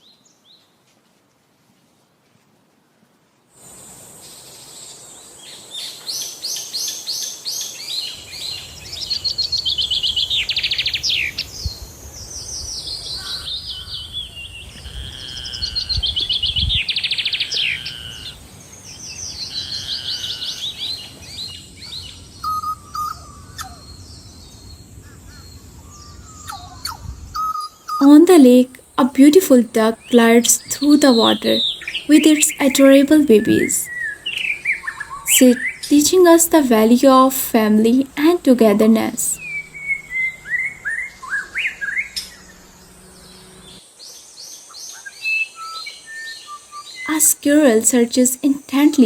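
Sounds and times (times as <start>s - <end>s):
birds singing duet: 4.7s - 48.3s.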